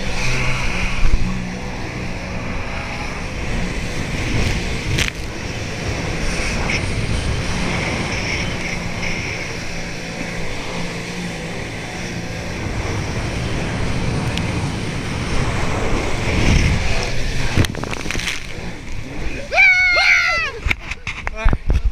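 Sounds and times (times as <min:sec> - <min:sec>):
rushing water: 0:00.0 - 0:21.0
jet ski engine running: 0:00.0 - 0:21.9
wind on microphone: 0:00.0 - 0:21.9.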